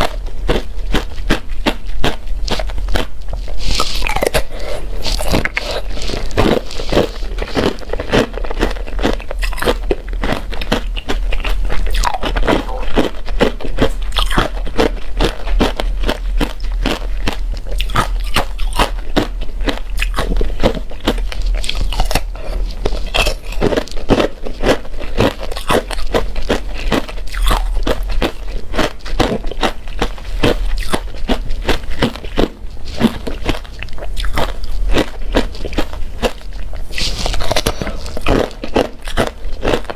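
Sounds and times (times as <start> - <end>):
person chewing crunchy ice: 0.0 - 39.9
steady low hum: 0.0 - 39.9.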